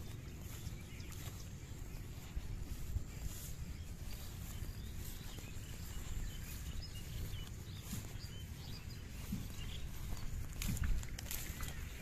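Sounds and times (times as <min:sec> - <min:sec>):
birds chirping: 0:00.0 - 0:12.0
low outdoor rumble: 0:00.0 - 0:12.0.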